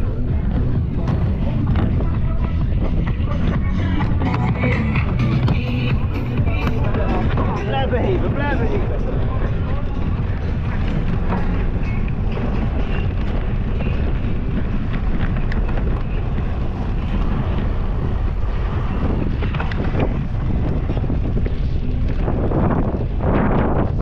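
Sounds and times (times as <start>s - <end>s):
bike clicks and rattles: 0.0s - 24.0s
wind rushing over microphone: 0.0s - 24.0s.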